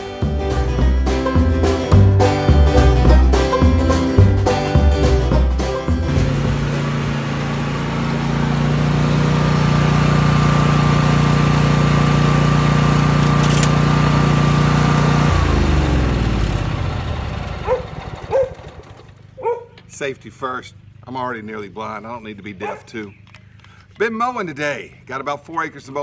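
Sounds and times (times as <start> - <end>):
lawn mower engine running: 0.0 - 24.2.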